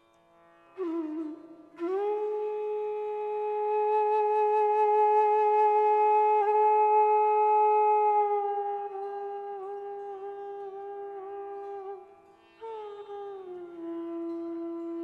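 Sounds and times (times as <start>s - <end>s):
indian classical instrumental music: 0.0s - 15.0s.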